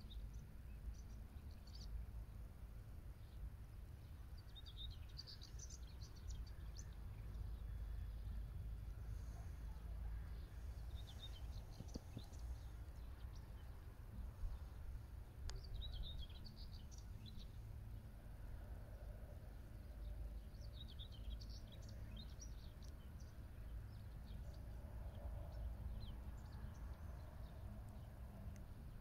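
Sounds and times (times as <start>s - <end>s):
small birds chirping: 0.0s - 2.4s, 3.2s - 29.0s.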